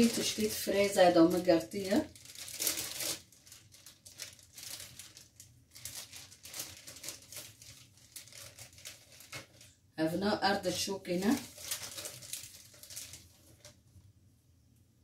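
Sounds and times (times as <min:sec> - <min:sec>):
plastic bags crinkling: 0:00.0 - 0:09.8, 0:10.8 - 0:13.9.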